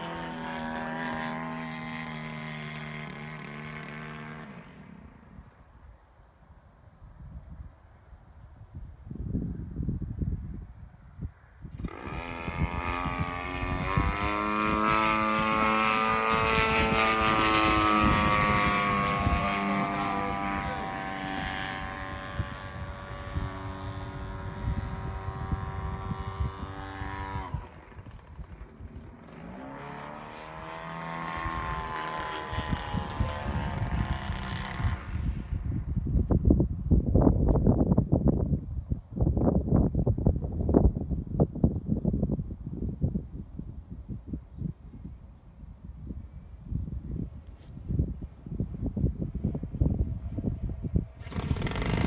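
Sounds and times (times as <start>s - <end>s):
propeller aircraft droning overhead: 0.0s - 6.4s, 7.6s - 37.4s, 43.3s - 52.0s.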